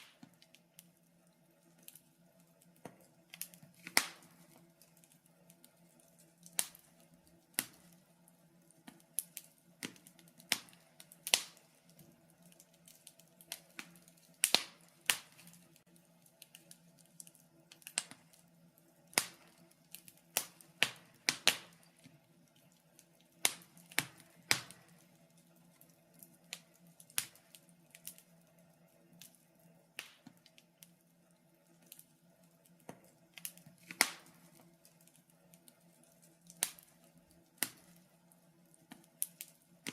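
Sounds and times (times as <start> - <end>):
sharp pops from fire: 0.0 - 1.0, 1.6 - 28.4, 29.2 - 31.0, 31.7 - 39.9
wood fire crackling: 0.0 - 39.9.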